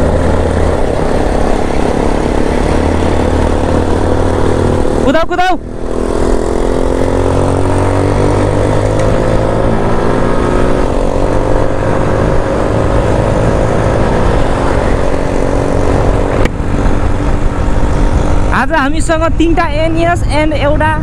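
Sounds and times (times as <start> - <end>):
motorcycle engine accelerating: 0.0 - 21.0
wind rushing over microphone: 0.0 - 21.0.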